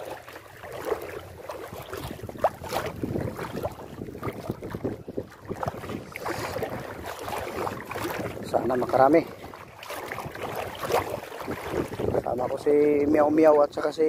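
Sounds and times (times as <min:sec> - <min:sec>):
water sloshing around wading legs: 0:00.0 - 0:14.0
wind buffeting microphone: 0:00.0 - 0:14.0.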